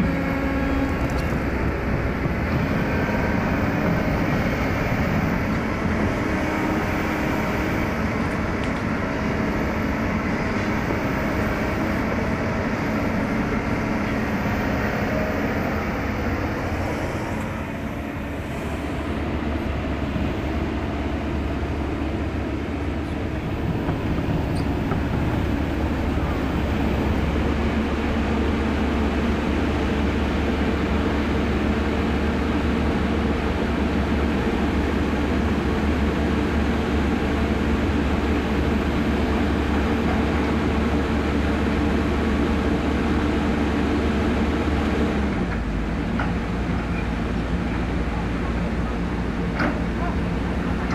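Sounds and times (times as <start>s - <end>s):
heavy diesel engines rumbling: 0.0s - 50.9s.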